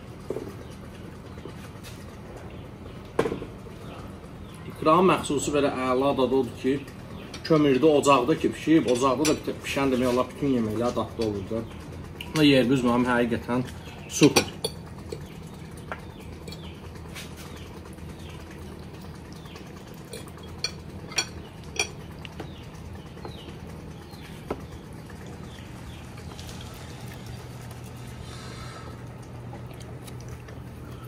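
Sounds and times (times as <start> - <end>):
steady low hum: 0.0 - 31.0
small birds chirping: 0.2 - 31.0.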